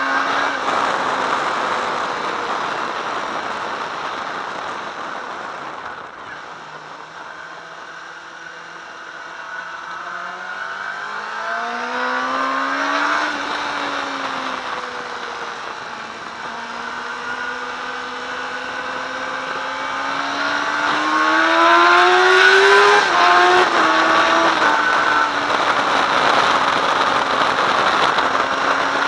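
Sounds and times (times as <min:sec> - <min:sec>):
motorcycle engine revving: 0:00.0 - 0:29.0
wind rush: 0:00.0 - 0:29.0.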